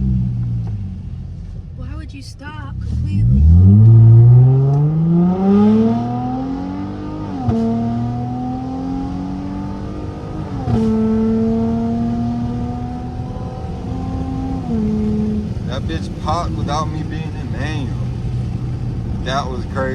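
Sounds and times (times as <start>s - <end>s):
car exhaust accelerating: 0.0s - 19.9s
exhaust pop: 0.0s - 19.9s.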